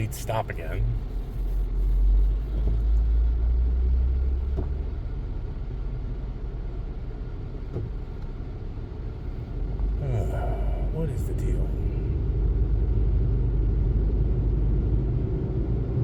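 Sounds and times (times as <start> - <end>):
car engine idling rumble: 0.0 - 16.0.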